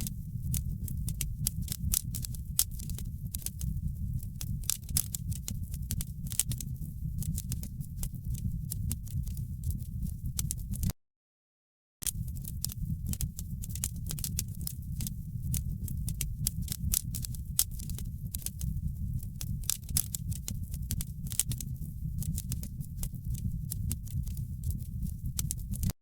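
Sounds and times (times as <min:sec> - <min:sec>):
low rumble of flames: 0:00.0 - 0:10.9, 0:12.0 - 0:25.9
wood fire crackling and popping: 0:00.0 - 0:10.9, 0:12.0 - 0:25.9.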